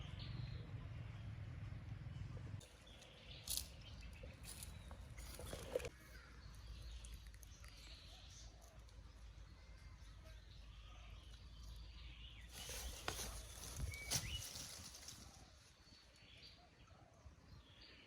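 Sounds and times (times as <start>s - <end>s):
bird chirp: 0.0s - 18.0s.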